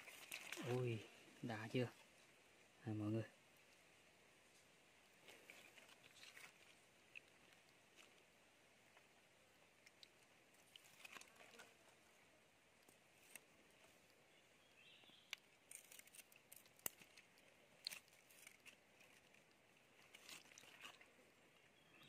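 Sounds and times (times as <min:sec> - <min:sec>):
background hiss: 0:00.0 - 0:22.0
faint light rustling: 0:03.6 - 0:21.4.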